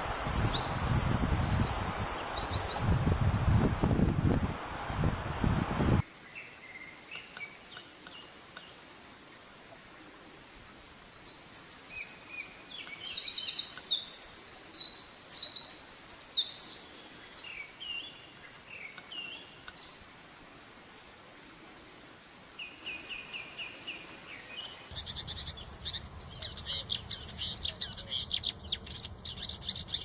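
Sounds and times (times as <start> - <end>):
songbird singing: 0.0 - 3.2, 6.0 - 20.7, 22.5 - 30.0.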